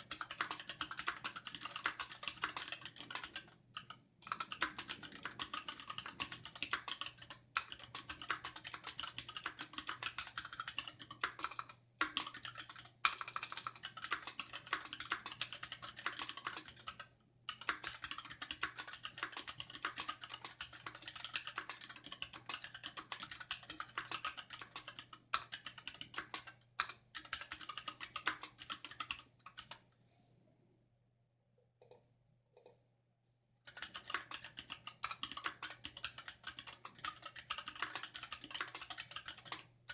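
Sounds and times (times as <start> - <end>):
mechanical keyboard typing: 0.0 - 29.8, 33.7 - 39.9.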